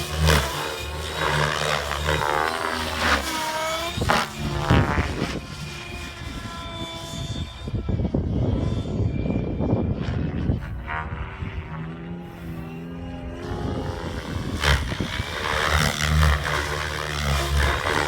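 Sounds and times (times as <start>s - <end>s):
model helicopter rotor hum: 0.0s - 18.0s
wind buffeting microphone: 0.0s - 18.0s.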